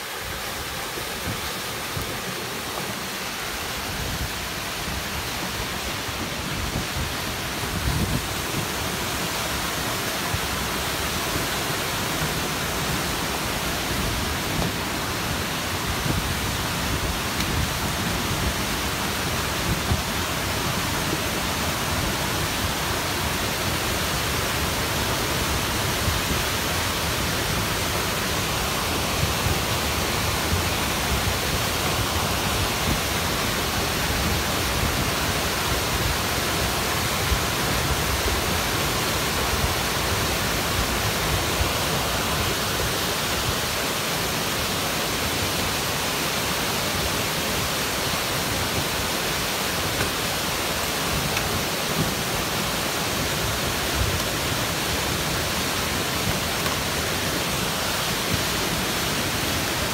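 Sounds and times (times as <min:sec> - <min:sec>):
flash flood water rushing: 0:00.0 - 0:59.9.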